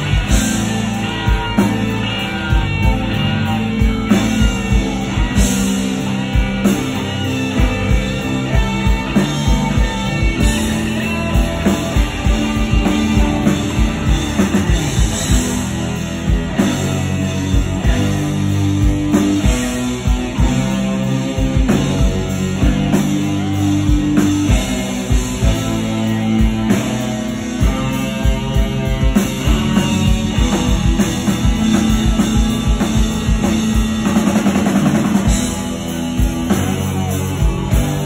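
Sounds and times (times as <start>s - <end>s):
bass guitar: 0.0s - 38.0s
steady drum beat: 0.0s - 38.0s.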